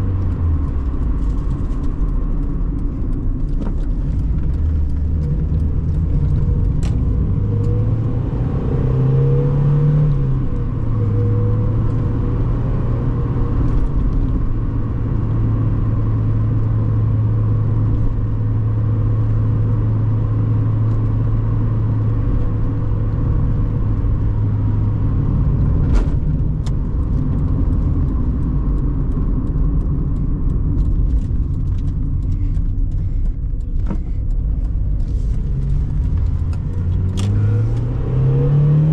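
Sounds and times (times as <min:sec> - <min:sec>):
car engine running: 0:00.0 - 0:38.9
road noise: 0:00.0 - 0:38.9.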